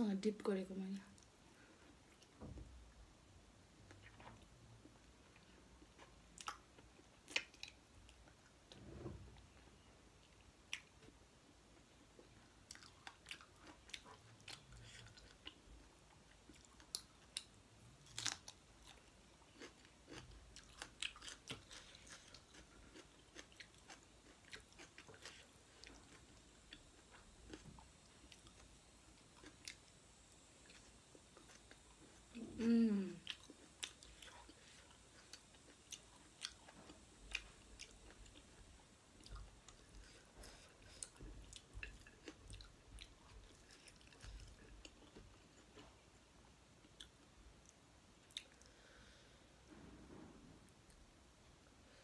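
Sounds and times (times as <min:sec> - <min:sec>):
person chewing food: 0:03.9 - 0:08.8, 0:11.8 - 0:32.4, 0:33.1 - 0:49.1.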